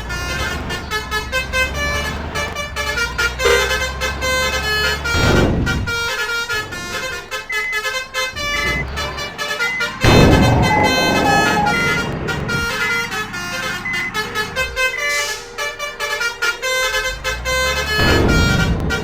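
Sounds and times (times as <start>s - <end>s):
multi-tone vehicle horn tune: 0.0s - 19.0s
vehicle engine rumble: 0.0s - 19.0s.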